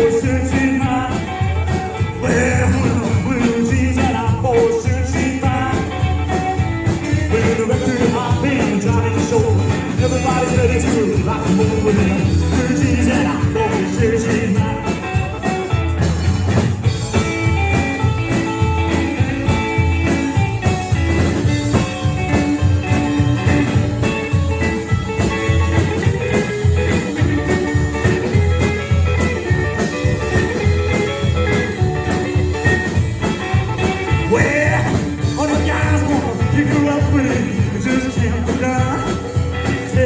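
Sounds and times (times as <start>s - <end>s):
guitar: 0.0s - 40.0s
live rock band instrumental: 0.0s - 40.0s.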